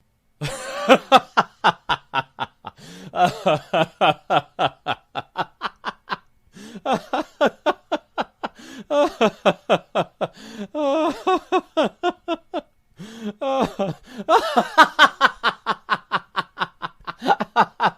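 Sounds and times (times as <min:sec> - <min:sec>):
hearty laughter: 0:00.4 - 0:17.9.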